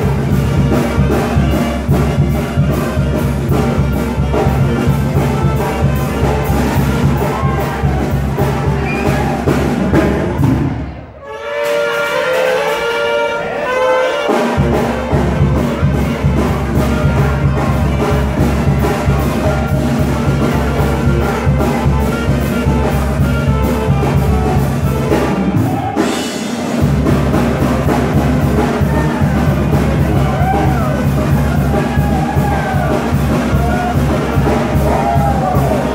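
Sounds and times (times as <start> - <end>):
brass fanfare: 0.0 - 35.9.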